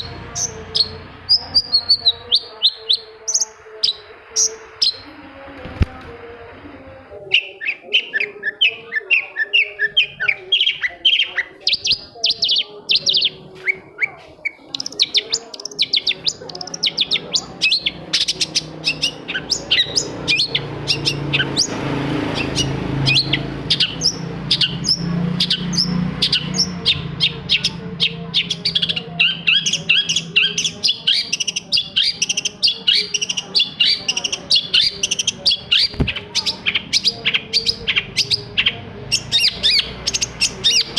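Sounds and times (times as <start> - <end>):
bird singing fast chatter: 0.0 - 5.2, 7.2 - 40.9.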